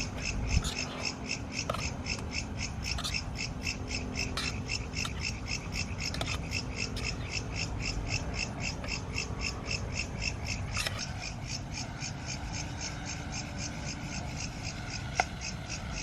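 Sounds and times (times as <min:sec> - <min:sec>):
animal chirping: 0:00.0 - 0:16.0
low background rumble: 0:00.0 - 0:16.0.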